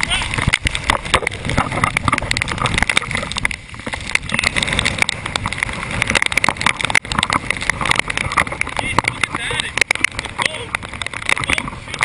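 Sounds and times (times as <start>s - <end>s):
sharp clicks and knocks: 0.0s - 12.0s
wind buffeting microphone: 0.0s - 12.0s.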